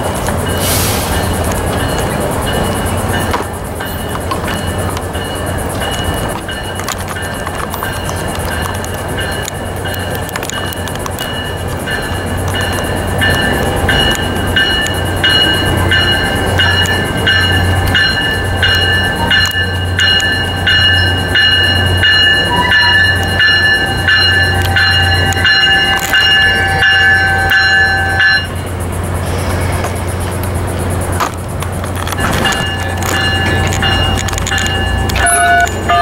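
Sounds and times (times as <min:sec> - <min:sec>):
low rumble of train: 0:00.0 - 0:36.0
train bell ringing: 0:00.0 - 0:36.0.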